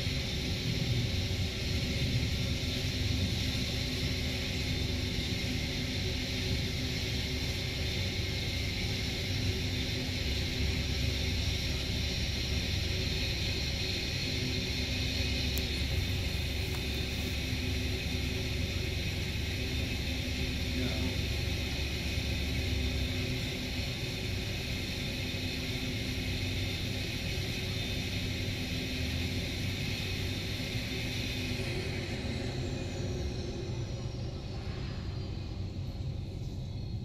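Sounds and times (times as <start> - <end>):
turboprop engines rumbling and whining: 0.0 - 37.0.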